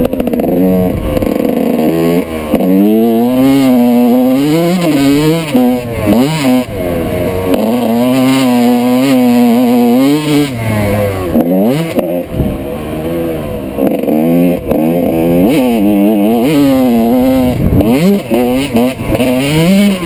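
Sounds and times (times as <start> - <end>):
motocross engine revving: 0.0 - 20.0.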